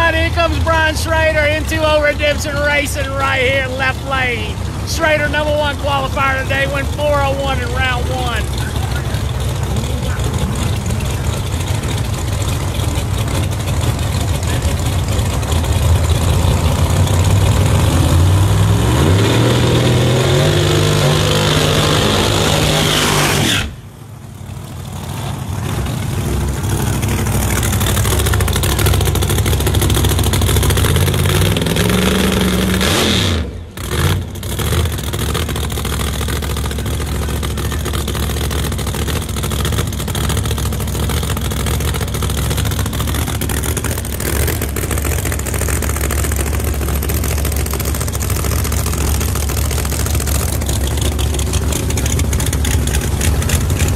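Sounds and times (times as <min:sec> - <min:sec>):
drag race car engines revving: 0:00.0 - 0:53.9.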